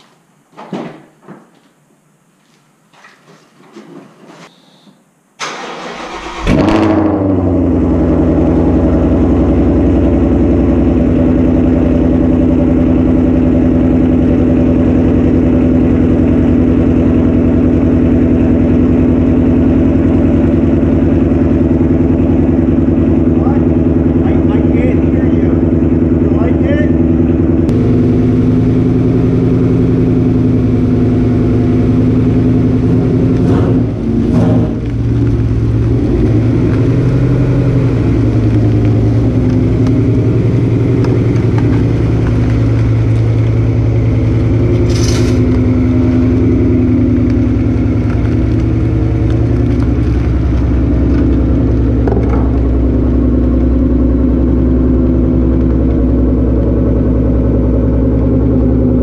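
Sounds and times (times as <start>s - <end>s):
car engine idling: 5.4s - 59.0s.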